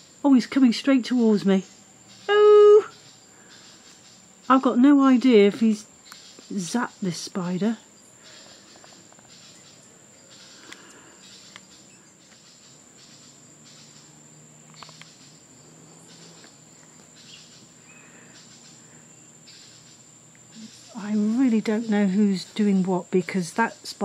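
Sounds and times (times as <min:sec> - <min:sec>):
buzzy insect pulses: 0:00.0 - 0:24.0
insect trilling: 0:00.0 - 0:24.0.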